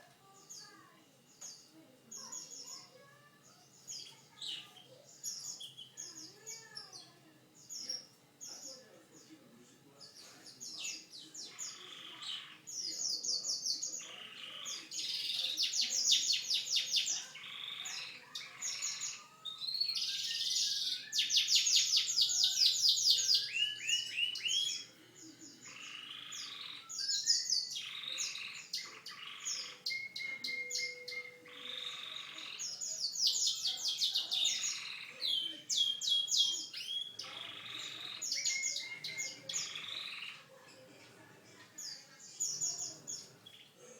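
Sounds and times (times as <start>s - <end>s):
canary singing trills: 0.0s - 40.9s, 41.8s - 43.9s.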